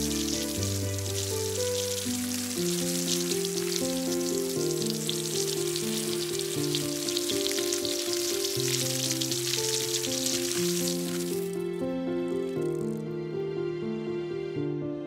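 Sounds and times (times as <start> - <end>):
crackling hiss: 0.0 - 13.0
slow sustained background music: 0.0 - 15.0.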